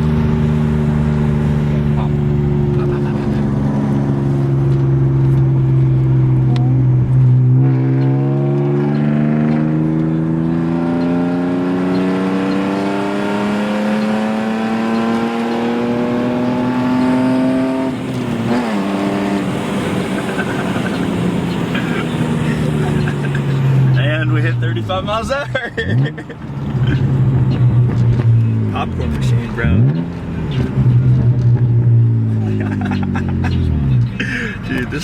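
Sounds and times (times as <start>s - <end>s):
car engine accelerating through gears: 0.0s - 35.0s.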